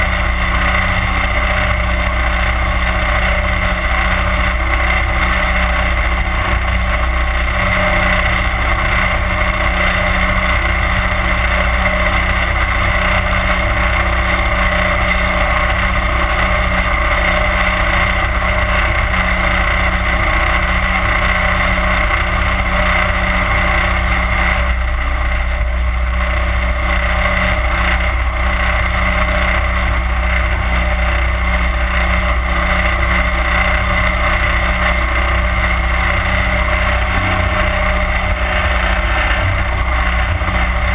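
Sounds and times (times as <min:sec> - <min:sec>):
boat motor running: 0:00.0 - 0:40.9.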